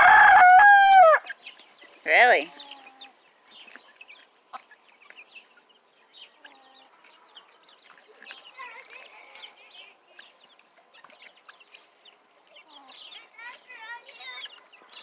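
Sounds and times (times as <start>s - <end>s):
chickens chirping and peeping: 0.0s - 15.0s
chickens clucking: 0.0s - 15.0s.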